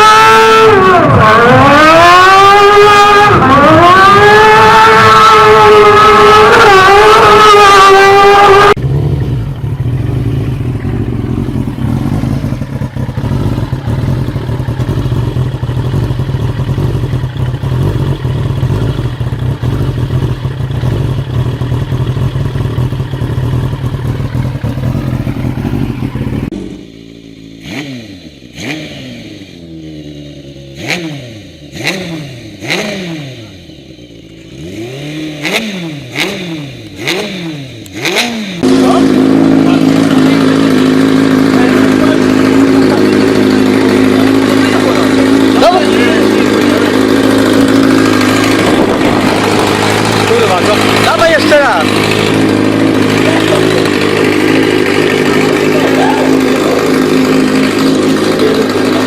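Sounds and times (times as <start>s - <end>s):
go-kart engine revving: 0.0s - 59.0s
loud engine drone: 0.0s - 59.0s.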